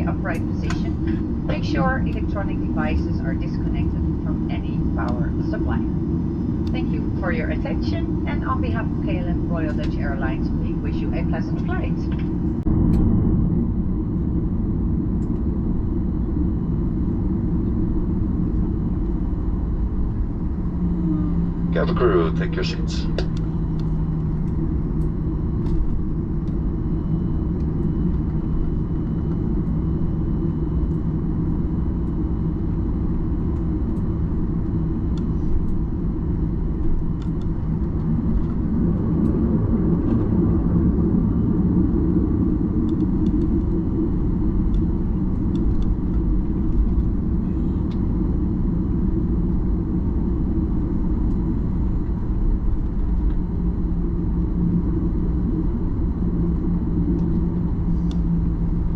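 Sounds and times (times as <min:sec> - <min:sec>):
aircraft engines low rumble: 0:00.0 - 0:58.9
low hum: 0:00.0 - 0:58.9.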